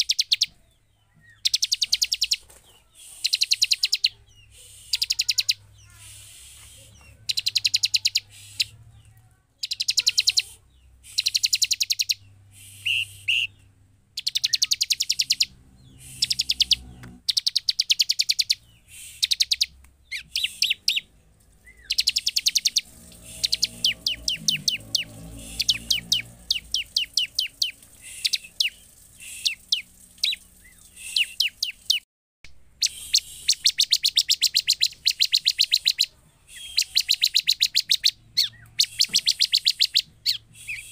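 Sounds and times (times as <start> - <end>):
bird singing high trilled phrases: 0.0 - 32.0, 32.8 - 40.9.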